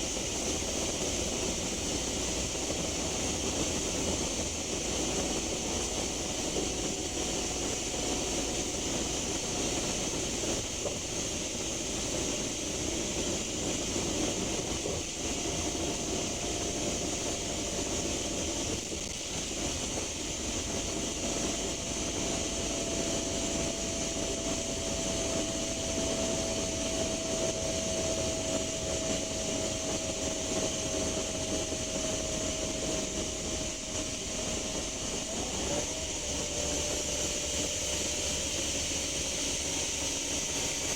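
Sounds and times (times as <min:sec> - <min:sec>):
bus diesel engine: 0:00.0 - 0:40.9.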